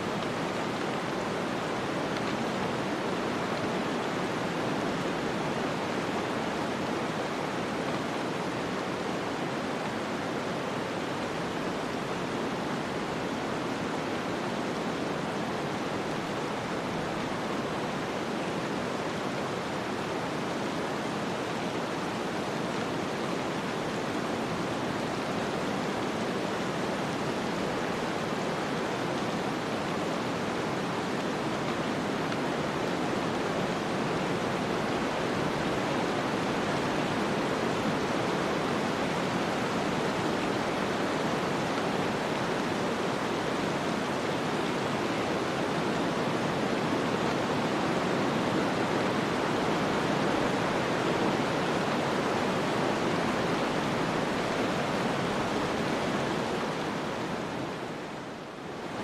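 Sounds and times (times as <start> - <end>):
blowing wind and snow: 0.0 - 59.0.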